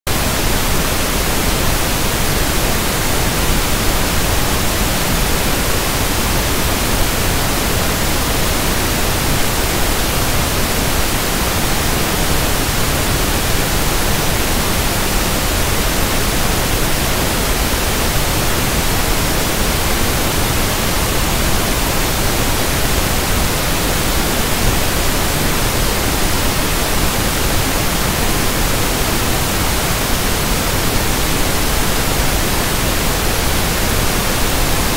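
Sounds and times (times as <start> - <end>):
pink noise hiss: 0.1 - 34.9.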